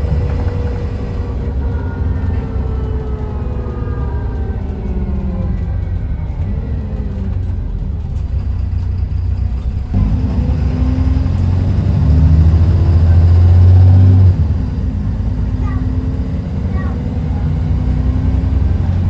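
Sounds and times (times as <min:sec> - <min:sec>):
bus diesel engine droning: 0:00.0 - 0:19.0.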